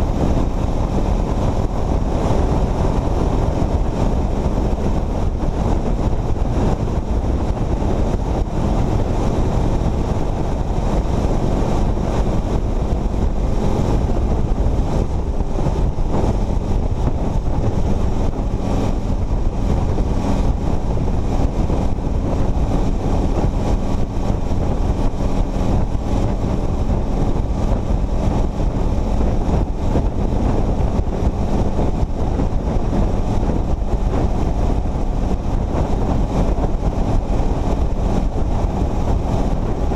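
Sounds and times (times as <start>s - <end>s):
engine hum: 0.0s - 39.9s
road noise: 0.0s - 39.9s
wind rush on microphone: 0.0s - 39.9s.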